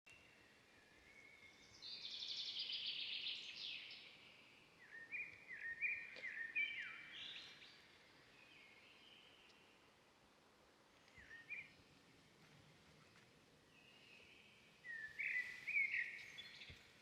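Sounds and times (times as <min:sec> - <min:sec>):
faint steady hiss: 0:00.1 - 0:17.0.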